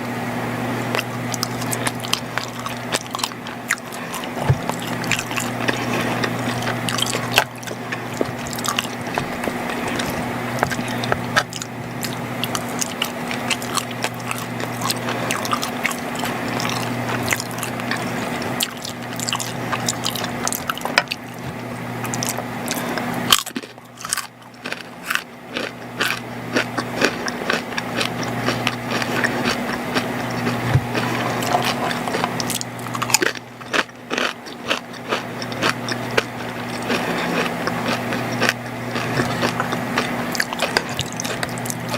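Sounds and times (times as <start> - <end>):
steady low hum: 0.0 - 41.9
person chewing food: 0.9 - 41.9.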